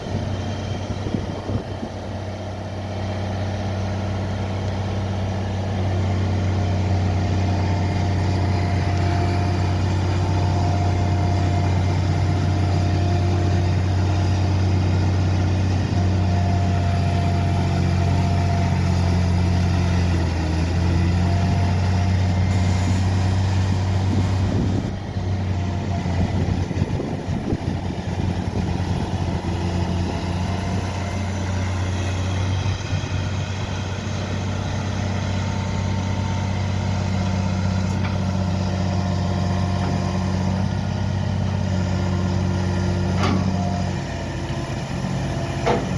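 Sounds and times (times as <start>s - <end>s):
heavy machinery engine droning: 0.0s - 45.9s.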